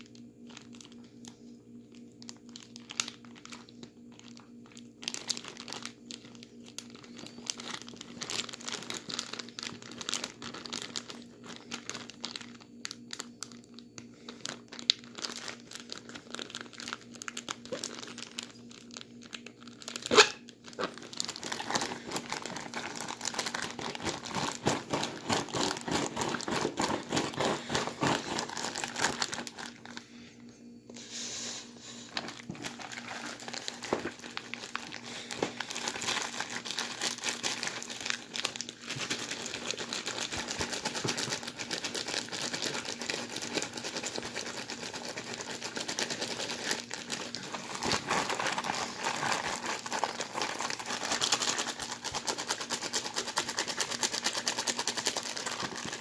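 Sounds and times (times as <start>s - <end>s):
plastic bag of ice crinkling: 0.0s - 30.1s, 32.0s - 56.0s.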